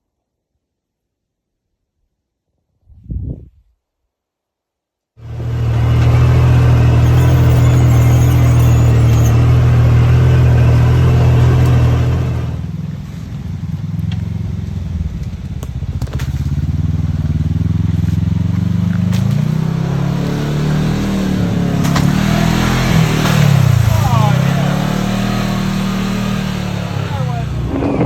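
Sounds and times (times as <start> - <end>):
engine running under load: 5.2 - 28.0.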